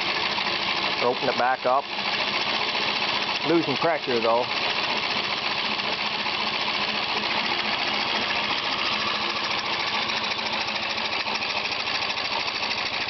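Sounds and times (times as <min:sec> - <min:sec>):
air-powered engine hissing exhaust puffs: 0:00.0 - 0:13.0.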